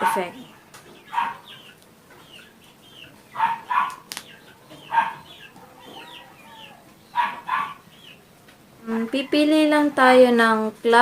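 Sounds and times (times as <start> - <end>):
chicken clucking: 0.0 - 9.9.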